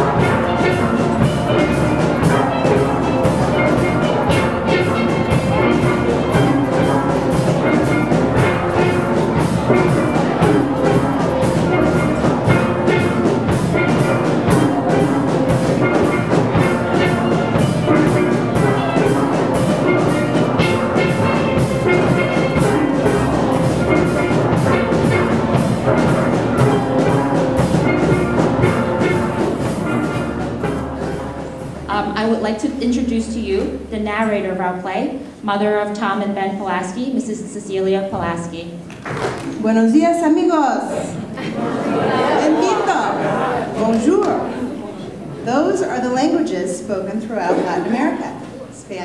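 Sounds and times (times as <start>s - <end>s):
steel band playing: 0.0s - 38.9s, 39.5s - 49.0s.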